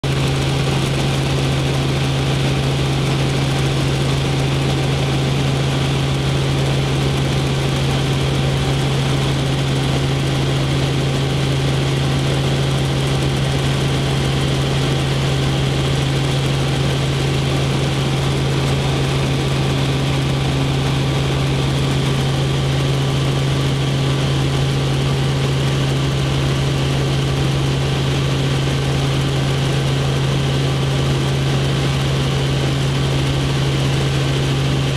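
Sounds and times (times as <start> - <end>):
helicopter cabin drone: 0.0 - 34.9.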